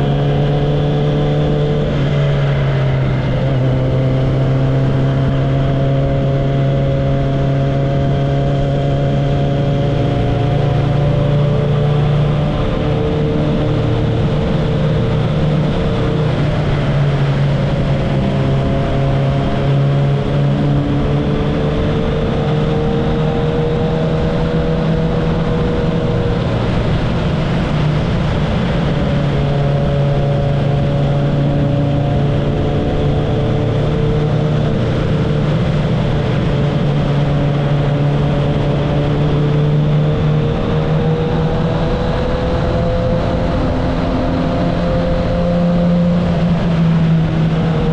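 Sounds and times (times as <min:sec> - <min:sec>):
motorcycle exhaust while riding: 0:00.0 - 0:47.9.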